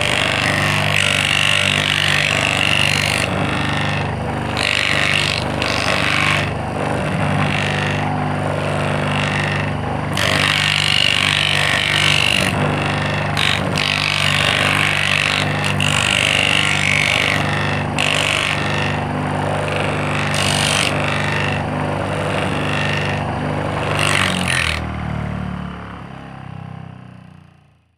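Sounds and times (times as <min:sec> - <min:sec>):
sander scraping: 0:00.0 - 0:24.9
electric motor humming: 0:00.0 - 0:25.2.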